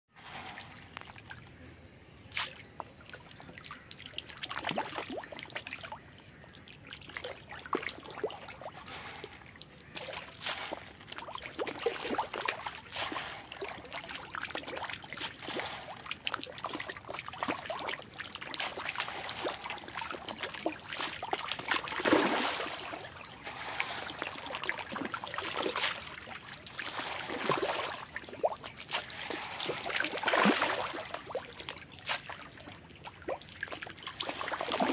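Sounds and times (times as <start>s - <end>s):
fish splashing and slurping: 0.1s - 34.9s.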